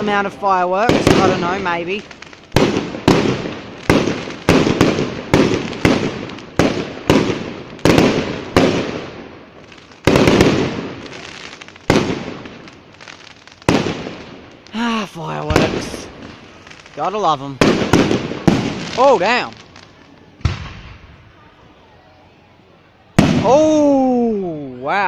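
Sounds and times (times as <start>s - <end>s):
fireworks bangs: 0.0s - 21.7s, 23.0s - 24.2s
fireworks crackling: 0.0s - 25.0s.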